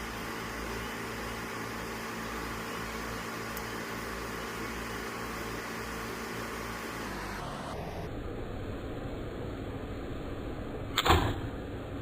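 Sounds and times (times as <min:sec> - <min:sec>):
mechanical hum with low drone: 0:00.0 - 0:12.0.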